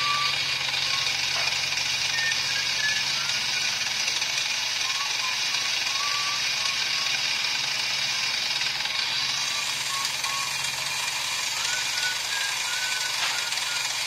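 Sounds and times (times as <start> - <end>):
cutter squeaks: 0.0 - 14.0
motor hum: 0.0 - 14.0.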